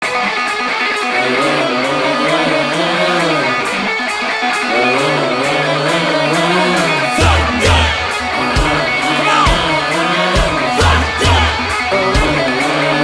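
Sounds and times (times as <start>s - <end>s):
band music with electric guitar: 0.0s - 13.0s.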